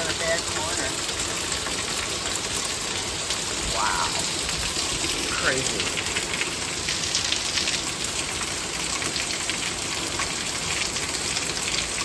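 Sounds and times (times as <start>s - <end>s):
heavy rain pattering: 0.0s - 12.0s
runoff water rushing: 0.0s - 12.0s.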